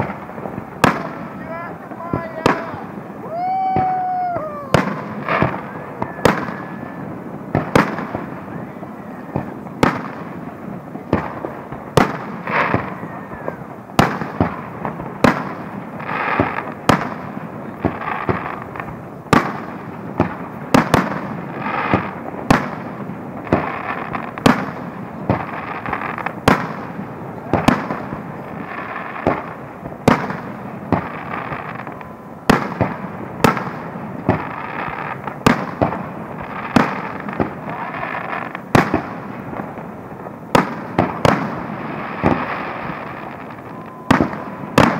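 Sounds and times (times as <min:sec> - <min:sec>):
firework shells bursting: 0:00.0 - 0:44.9.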